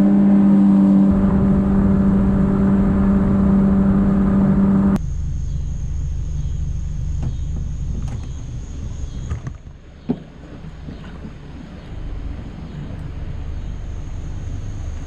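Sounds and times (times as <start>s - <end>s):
jet boat engine: 0.0s - 15.0s.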